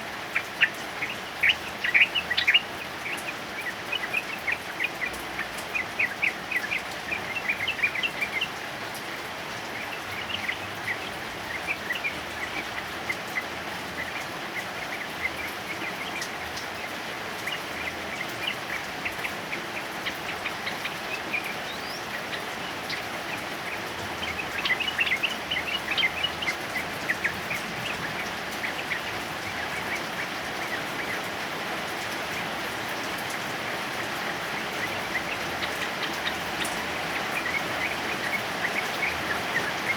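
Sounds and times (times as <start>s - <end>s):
bird chattering song: 0.0s - 39.9s
heavy rain: 0.0s - 39.9s.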